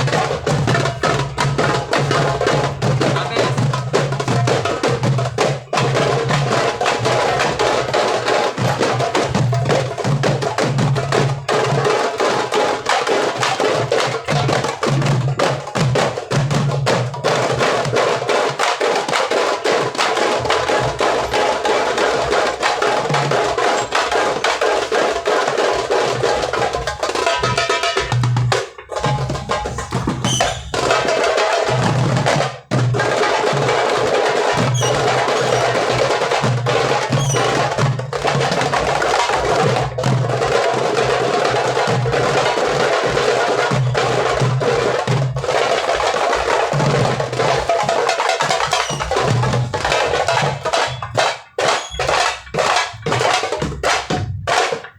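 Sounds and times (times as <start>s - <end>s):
goblet drums playing fast rhythm: 0.0s - 54.9s.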